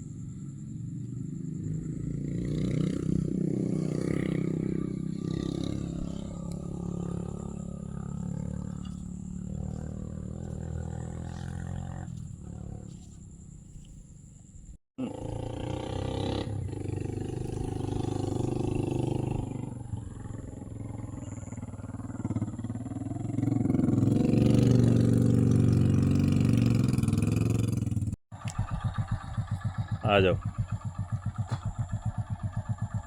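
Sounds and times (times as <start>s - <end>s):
vehicle engine passing by: 0.1s - 13.8s, 15.0s - 33.0s.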